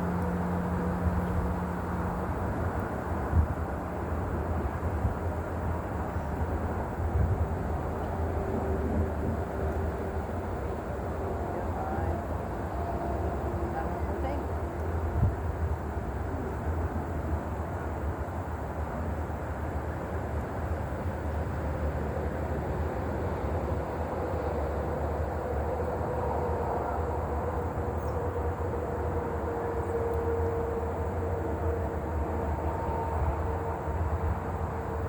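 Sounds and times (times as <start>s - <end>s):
faint engine drone: 0.0s - 35.0s.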